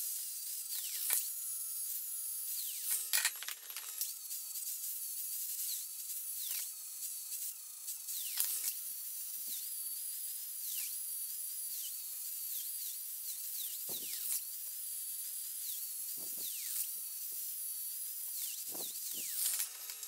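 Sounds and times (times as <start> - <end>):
angle grinder grinding steel: 0.0 - 20.0.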